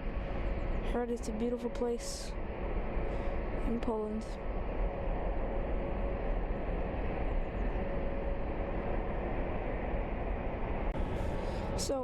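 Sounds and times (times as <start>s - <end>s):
faint steady whine: 0.0s - 12.0s
jet engines running: 0.0s - 12.0s.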